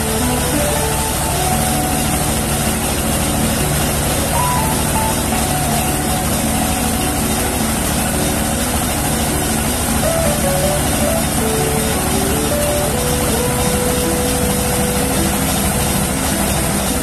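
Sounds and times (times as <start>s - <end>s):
milling machine running: 0.0s - 17.0s.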